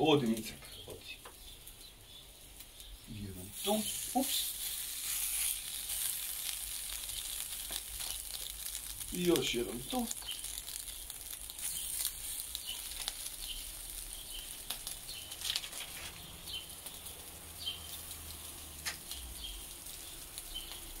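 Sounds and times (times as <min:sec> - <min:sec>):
meat sizzling on a grill: 0:00.0 - 0:21.0
small pops and crackles: 0:03.6 - 0:21.0.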